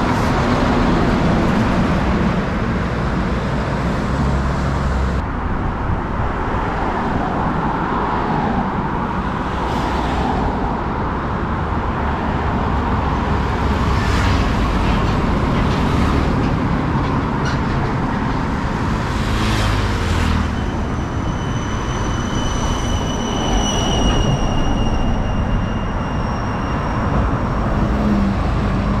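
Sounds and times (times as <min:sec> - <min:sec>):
highway traffic passing: 0:00.0 - 0:29.0.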